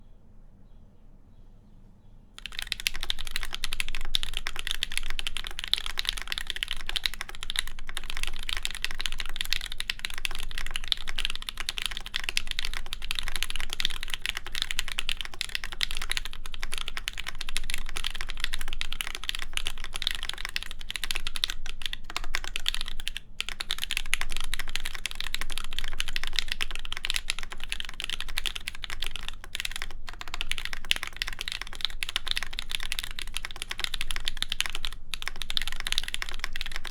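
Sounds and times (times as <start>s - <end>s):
fast typing on mechanical keyboard: 2.4s - 36.9s.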